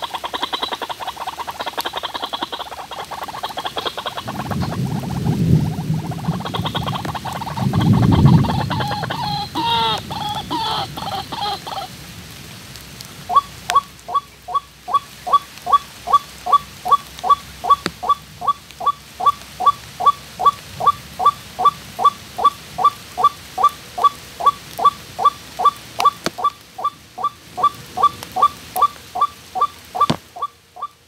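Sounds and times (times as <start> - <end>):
rough varied bird calls: 0.0 - 11.9, 13.2 - 31.0
waterhen calling short falling notes: 0.0 - 11.9, 13.2 - 31.0.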